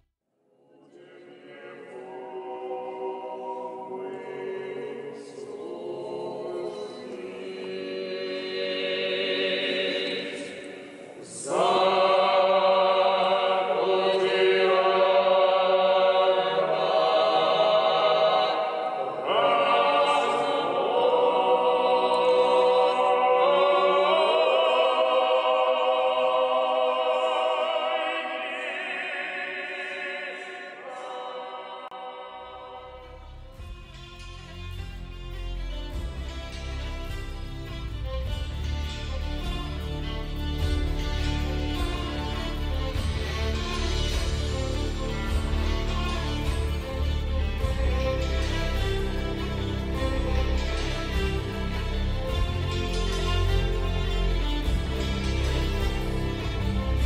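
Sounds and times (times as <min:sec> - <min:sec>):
male vocal quartet singing: 0:00.8 - 0:34.0, 0:39.2 - 0:57.0.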